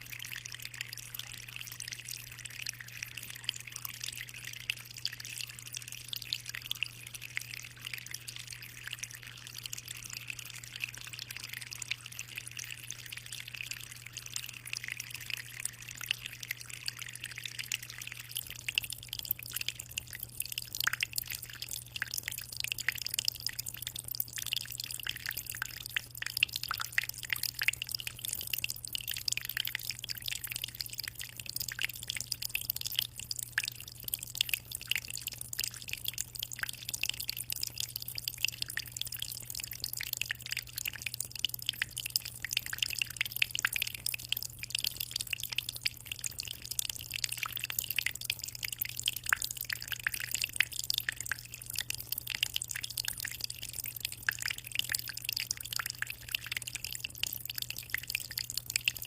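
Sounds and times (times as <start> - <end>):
water dripping and splashing: 0.0 - 59.0.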